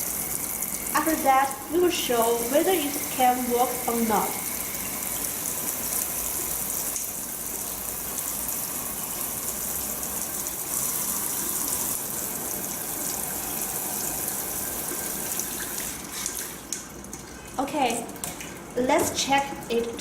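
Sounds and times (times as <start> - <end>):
shower water spraying: 0.0 - 16.9.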